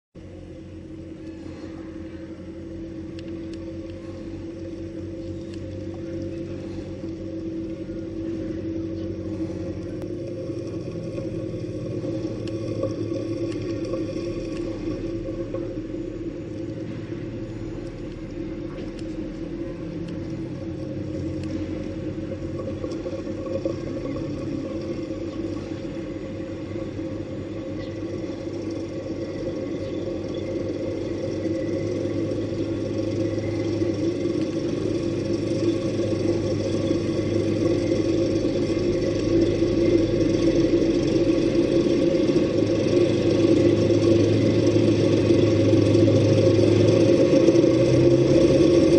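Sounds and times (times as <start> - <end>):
vehicle engine rumbling: 0.1 - 48.9.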